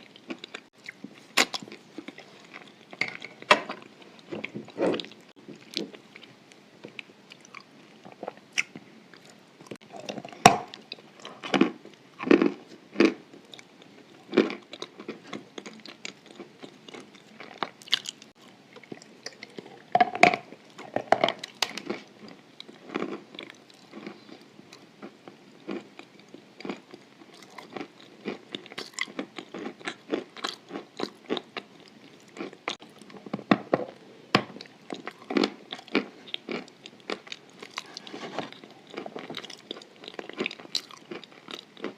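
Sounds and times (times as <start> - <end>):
person chewing: 0.0 - 41.9.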